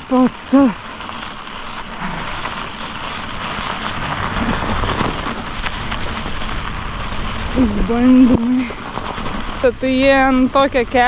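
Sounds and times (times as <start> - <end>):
bike tyres rolling over snow: 0.0 - 11.0.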